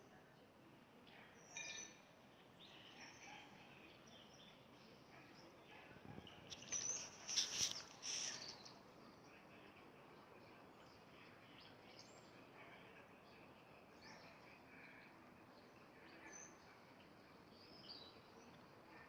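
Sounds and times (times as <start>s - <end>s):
small birds chirping: 1.0s - 19.0s.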